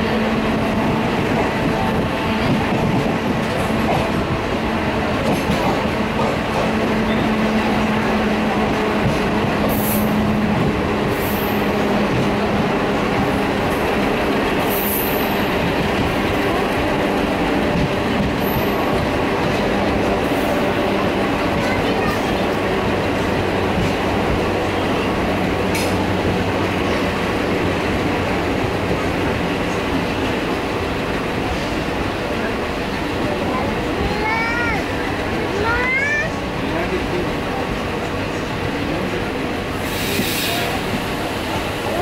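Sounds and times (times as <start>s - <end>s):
train carriage running noise: 0.0s - 42.0s.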